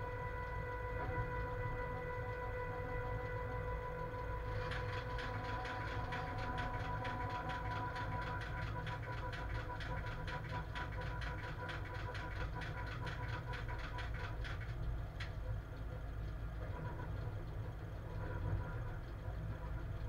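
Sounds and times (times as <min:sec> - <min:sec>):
faint steady whine: 0:00.0 - 0:20.0
low locomotive rumble: 0:00.0 - 0:20.0
rapid regular ticking: 0:00.0 - 0:20.0.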